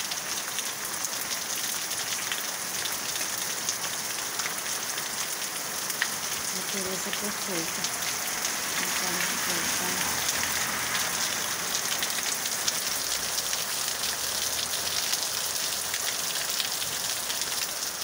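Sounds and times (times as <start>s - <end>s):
rain falling on lawn and trees: 0.0s - 18.0s.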